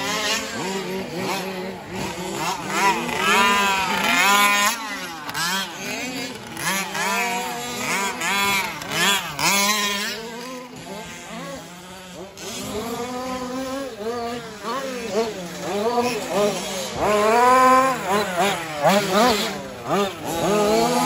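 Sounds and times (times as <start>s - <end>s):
small engines buzzing and revving: 0.0s - 21.0s.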